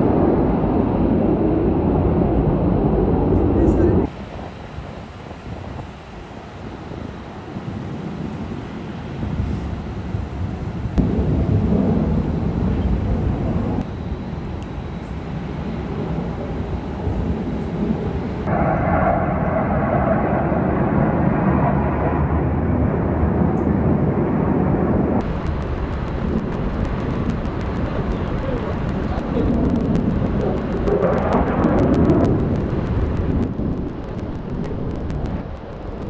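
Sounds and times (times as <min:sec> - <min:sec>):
aircraft engine rumble: 0:00.0 - 0:36.0.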